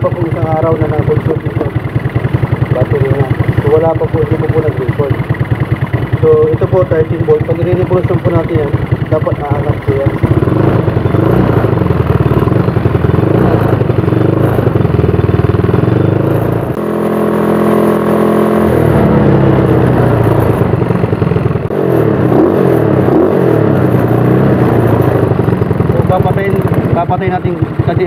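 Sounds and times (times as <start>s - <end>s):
scooter engine revving: 0.0s - 28.0s.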